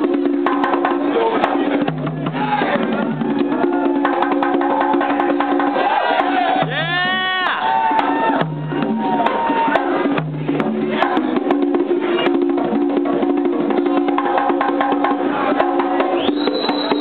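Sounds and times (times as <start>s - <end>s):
conga drums solo: 0.0s - 17.0s.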